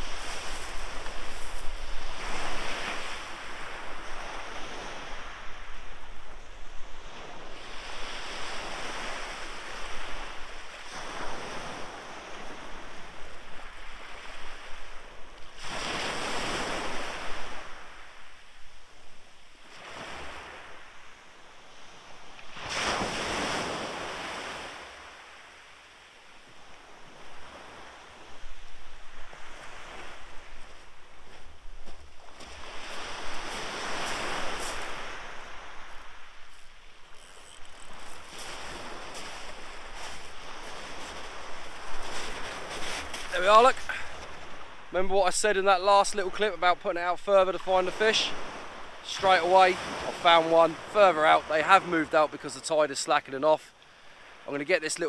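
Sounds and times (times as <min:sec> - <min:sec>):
waves washing up a shingle beach: 0:00.0 - 0:55.0.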